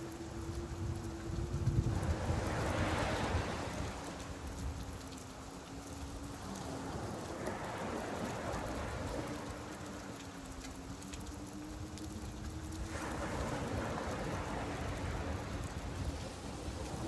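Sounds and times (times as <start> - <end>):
rain patter: 0.0 - 17.0
surf washing on a beach: 0.0 - 17.0.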